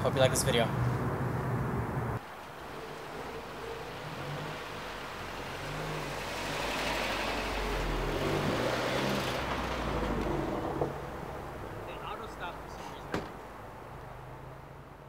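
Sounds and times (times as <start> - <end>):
car engine passing slowly: 0.1 - 15.0.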